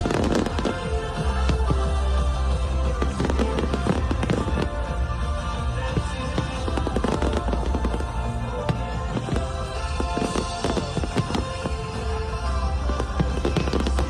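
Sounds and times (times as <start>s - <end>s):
fireworks bangs and crackles: 0.0s - 14.0s
loud show music with bass: 0.0s - 14.0s.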